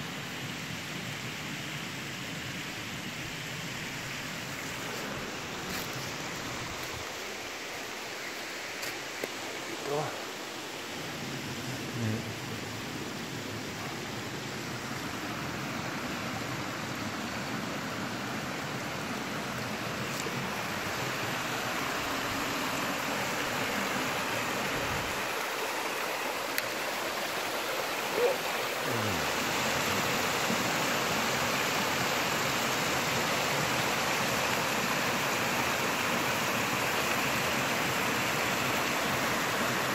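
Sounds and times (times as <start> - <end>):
stream cascading over rocks: 0.0 - 39.9.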